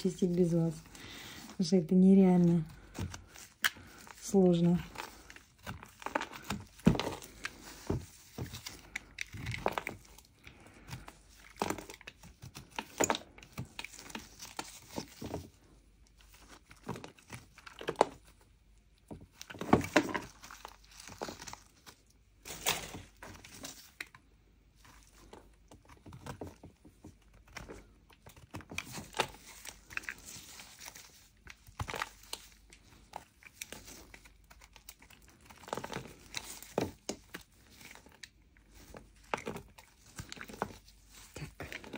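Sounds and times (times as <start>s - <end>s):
clay flakes cracking: 0.0s - 41.9s.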